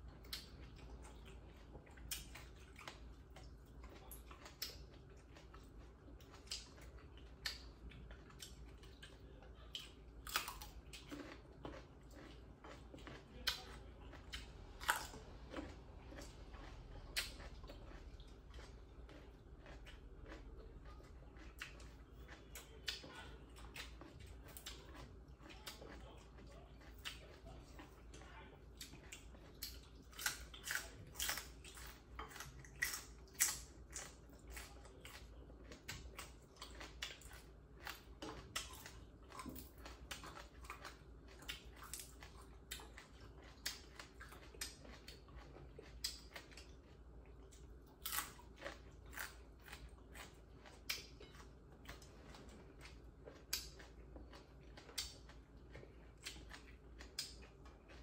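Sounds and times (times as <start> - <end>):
people chewing and crunching food: 0.0 - 58.0.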